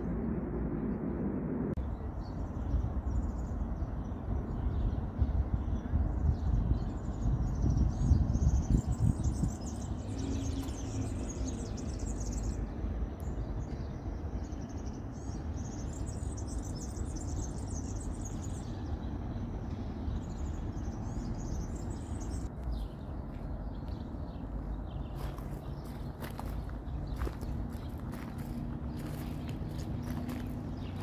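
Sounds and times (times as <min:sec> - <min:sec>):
low background rumble: 0:00.0 - 0:31.0
songbirds chirping: 0:01.8 - 0:31.0.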